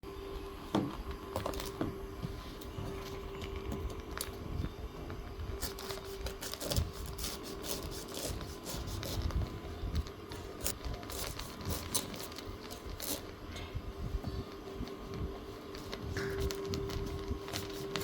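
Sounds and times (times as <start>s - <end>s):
steady faint hum: 0.0s - 18.0s.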